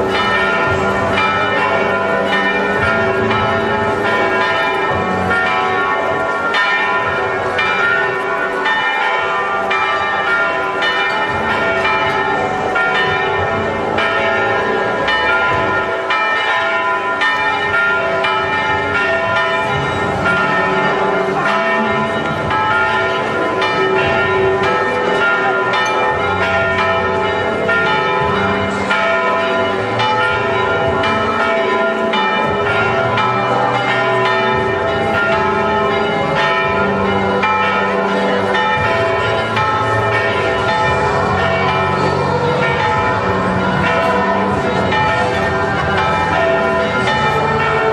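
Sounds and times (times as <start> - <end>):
church bells pealing: 0.0 - 47.9.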